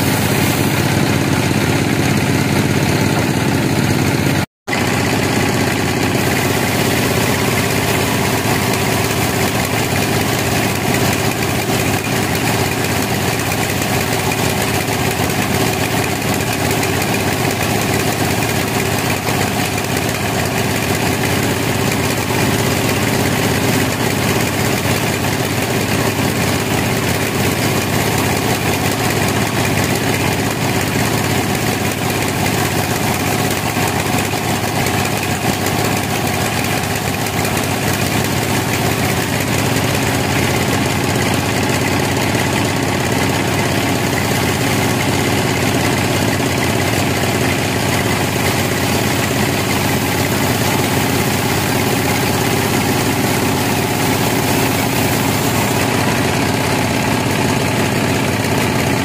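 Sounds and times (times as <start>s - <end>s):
band saw sawing through log: 0.0s - 59.0s.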